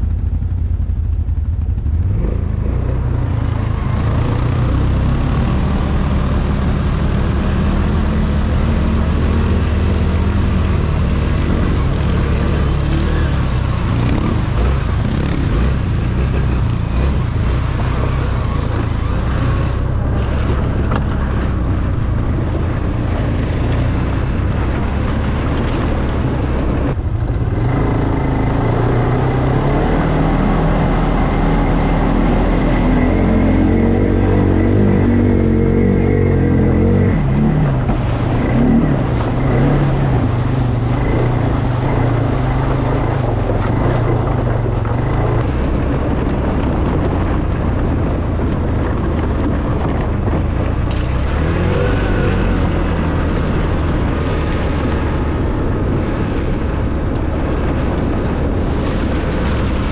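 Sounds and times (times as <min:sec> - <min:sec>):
atv engine running: 0:00.0 - 0:59.9
continuous rushing noise: 0:00.0 - 0:59.9.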